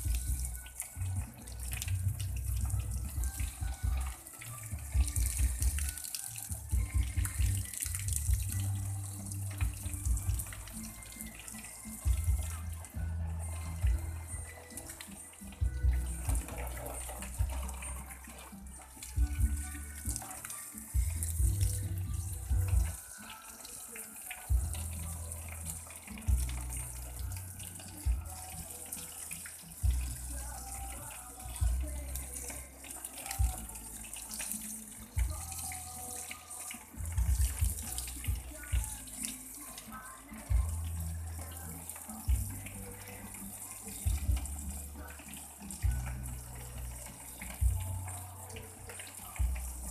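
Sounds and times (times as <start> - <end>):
water running with hiss: 0.0 - 49.9.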